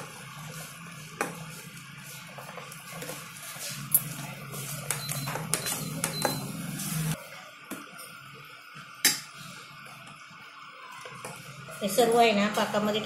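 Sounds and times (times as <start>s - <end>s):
bubbling sugar syrup: 0.0s - 11.8s.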